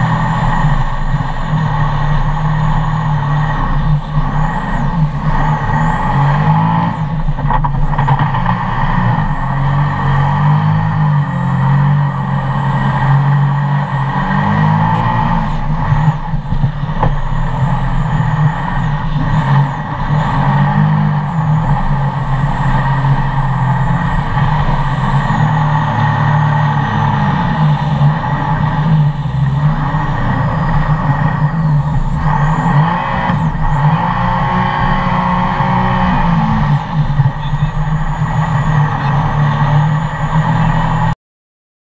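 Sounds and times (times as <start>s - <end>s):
boat engine running hard: 0.0s - 41.1s
faint high whine: 0.0s - 41.2s
wind: 0.0s - 41.2s.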